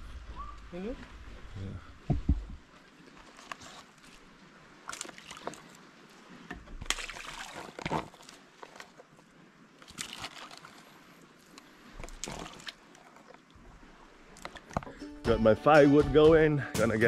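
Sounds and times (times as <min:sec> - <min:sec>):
water sloshing and splashing: 0:00.0 - 0:15.1.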